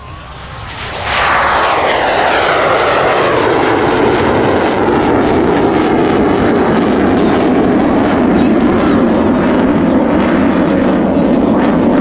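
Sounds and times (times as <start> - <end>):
jet engine roaring on takeoff: 0.0 - 12.0.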